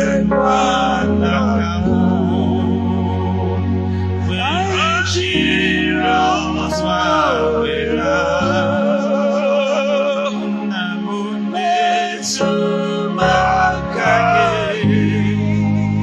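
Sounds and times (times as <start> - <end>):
man singing with vibrato: 0.0 - 3.2, 4.2 - 16.0
keyboard and guitar accompaniment: 0.0 - 16.0.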